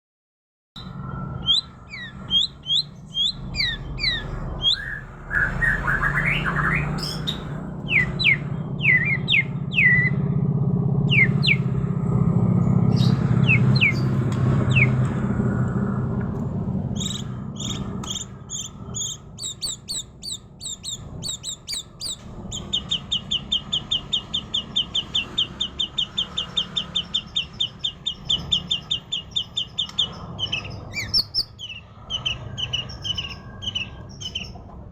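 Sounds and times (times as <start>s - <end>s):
songbird whistling and trilling: 0.8s - 10.2s, 11.0s - 11.7s, 12.9s - 15.0s, 17.0s - 34.6s
steady low hum: 0.8s - 34.9s.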